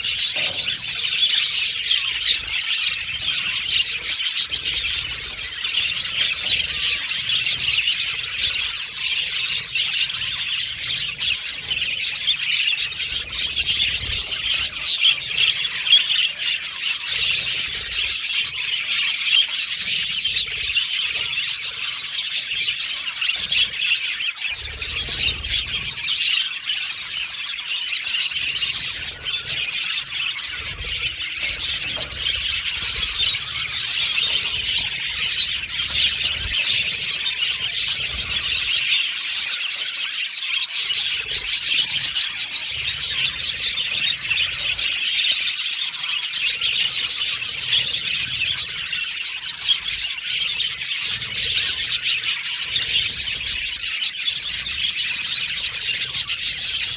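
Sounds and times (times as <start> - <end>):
budgerigars chattering and chirping: 0.0 - 56.9.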